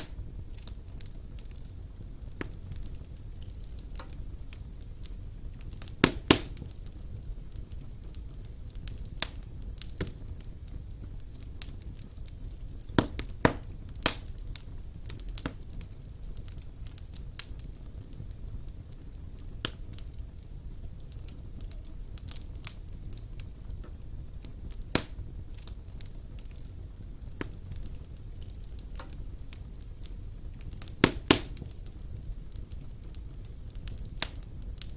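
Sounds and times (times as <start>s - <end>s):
wood fire crackling in a fireplace: 0.0s - 34.9s.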